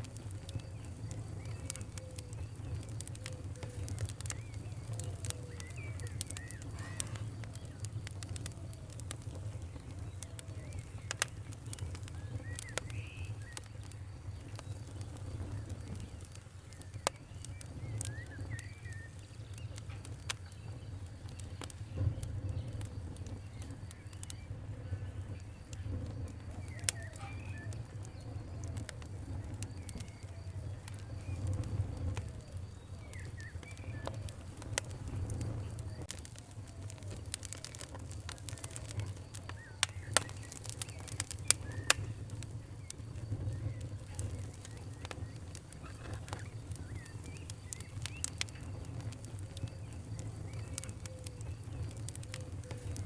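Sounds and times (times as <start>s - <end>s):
sharp pops from fire: 0.0s - 53.0s
wood fire crackling: 0.0s - 53.0s
birds chirping: 0.1s - 53.0s.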